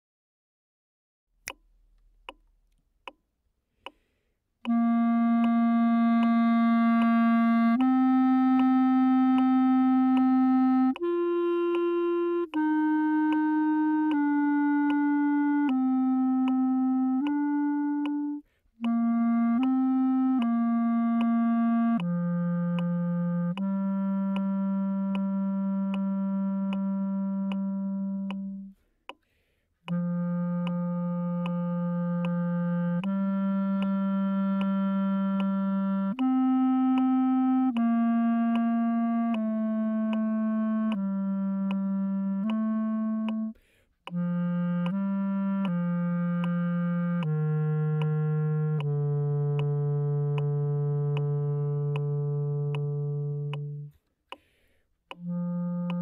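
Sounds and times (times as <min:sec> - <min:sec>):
clarinet playing slow melody: 0:04.6 - 0:28.9, 0:29.8 - 0:56.0.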